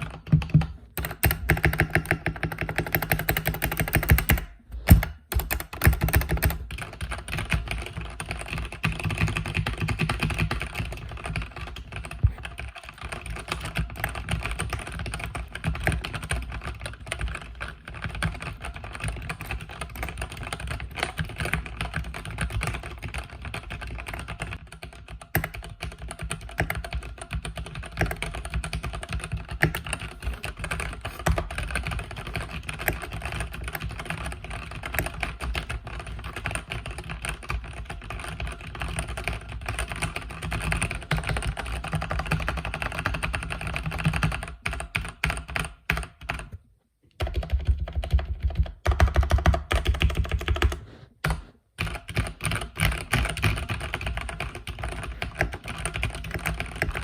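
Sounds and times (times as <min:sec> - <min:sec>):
mechanical keyboard typing: 0:00.0 - 0:46.6, 0:47.2 - 0:57.0.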